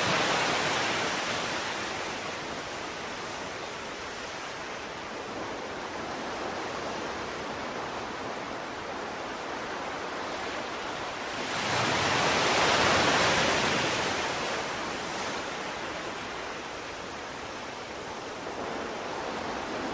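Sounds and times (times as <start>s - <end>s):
sea surf: 0.0s - 19.9s
wind: 0.0s - 19.9s.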